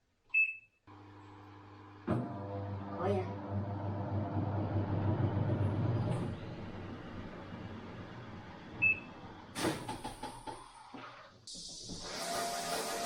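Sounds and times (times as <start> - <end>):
washing machine hum: 0.9 - 13.0.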